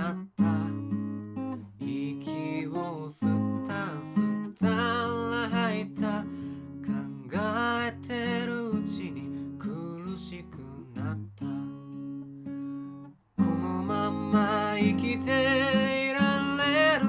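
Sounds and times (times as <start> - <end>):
man singing: 0.0 - 12.0, 13.4 - 17.0
acoustic guitar strummed and picked: 0.0 - 17.0.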